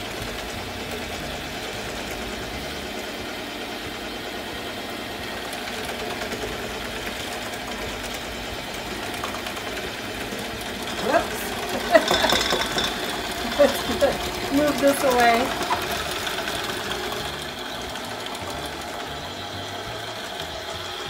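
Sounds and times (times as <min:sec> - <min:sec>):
stand mixer motor kneading dough: 0:00.0 - 0:21.0.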